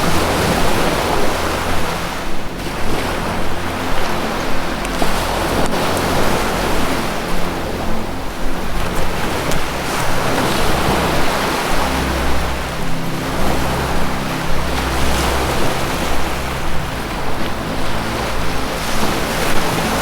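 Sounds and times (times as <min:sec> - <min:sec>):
low music drone: 0:00.0 - 0:20.0
ocean surf washing: 0:00.0 - 0:20.0.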